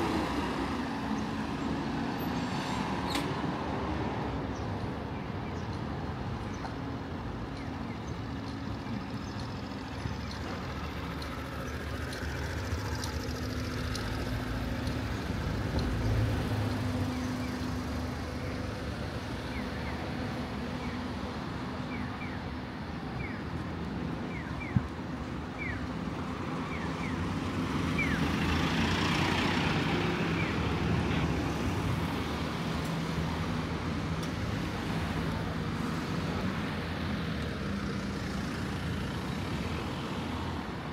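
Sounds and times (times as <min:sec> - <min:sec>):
traffic engine hum: 0:00.0 - 0:40.9.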